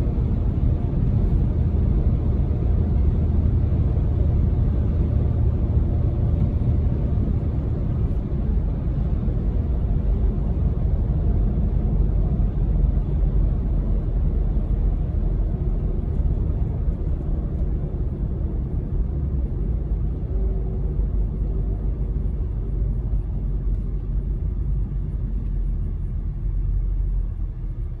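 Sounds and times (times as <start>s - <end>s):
car engine and road noise rumble: 0.0s - 28.0s.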